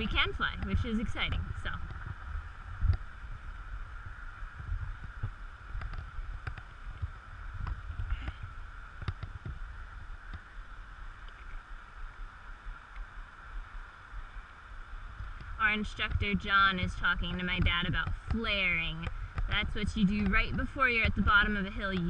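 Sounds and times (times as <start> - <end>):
faint high hum: 0.0 - 22.0
wind buffeting microphone: 0.0 - 22.0.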